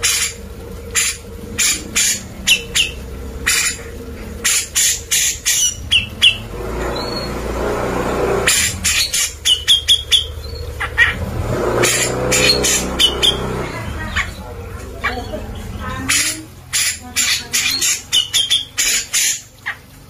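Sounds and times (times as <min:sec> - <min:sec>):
bird calling harsh notes: 0:00.0 - 0:20.0.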